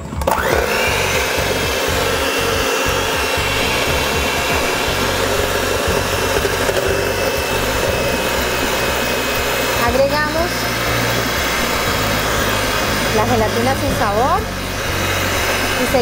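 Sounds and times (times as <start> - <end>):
electric hand mixer whine: 0.0 - 16.0.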